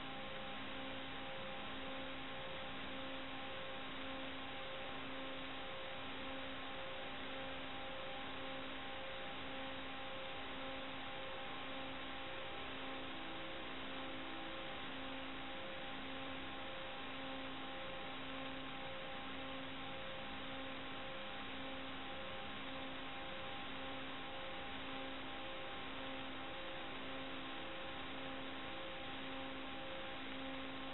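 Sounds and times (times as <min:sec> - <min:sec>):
faint steady tones: 0:00.0 - 0:30.9.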